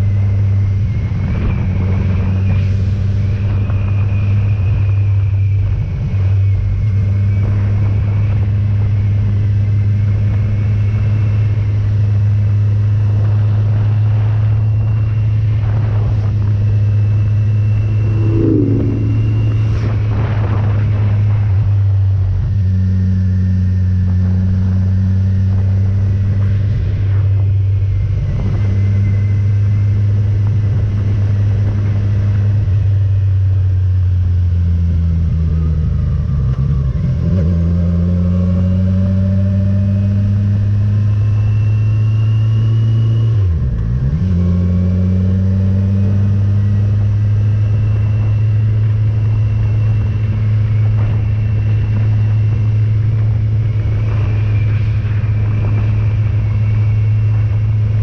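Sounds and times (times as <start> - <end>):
motorcycle engine running: 0.0 - 42.2, 43.2 - 58.0.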